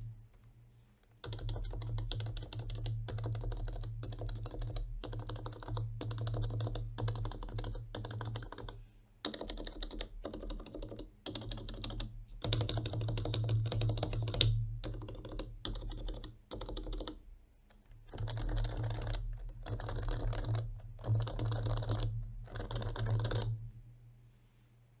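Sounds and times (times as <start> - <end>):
keyboard typing: 1.2 - 17.2, 17.8 - 23.6.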